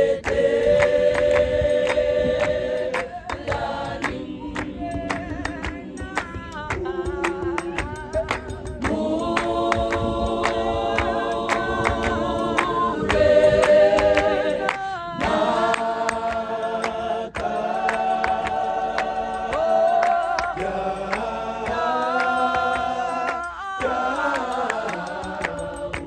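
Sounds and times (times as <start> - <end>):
choir singing held chords: 0.0 - 26.0
sharp hand claps and taps: 0.0 - 26.0.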